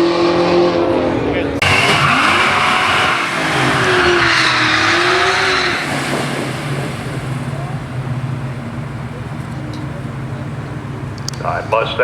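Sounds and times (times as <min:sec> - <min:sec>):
drag racing car engines: 0:00.0 - 0:12.0.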